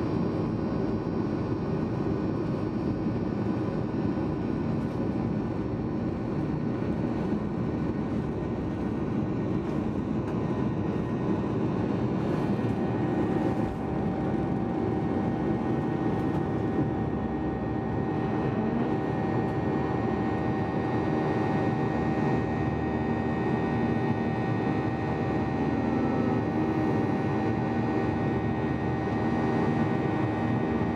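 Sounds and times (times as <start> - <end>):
airplane cabin engine hum: 0.0 - 30.9
steady whine tones: 0.0 - 30.9.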